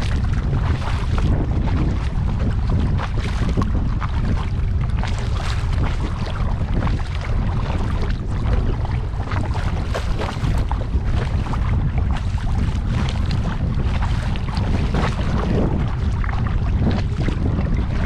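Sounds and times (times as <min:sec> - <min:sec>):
water splashing and lapping: 0:00.0 - 0:18.0
wind buffeting microphone: 0:00.0 - 0:18.0.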